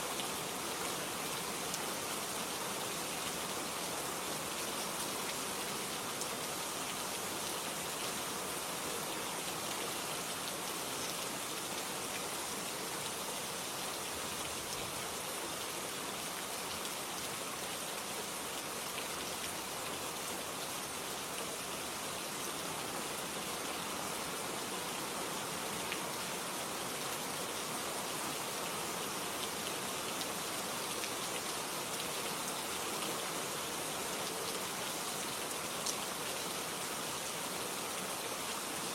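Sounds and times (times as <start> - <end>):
rain hissing on a surface: 0.0 - 38.9.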